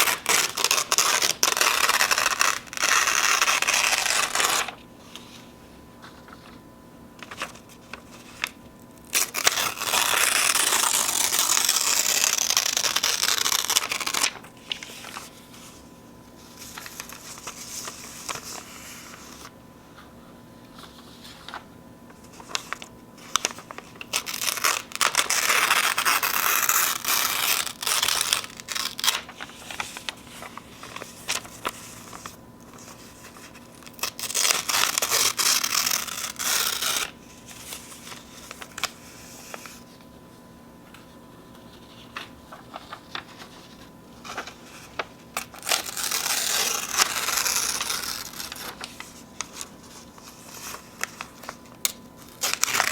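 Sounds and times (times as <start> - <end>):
paper tearing slowly: 0.0 - 4.8, 7.2 - 15.7, 16.4 - 19.5, 22.3 - 39.9, 41.8 - 52.9
paper crinkling: 0.0 - 40.2, 40.9 - 52.9.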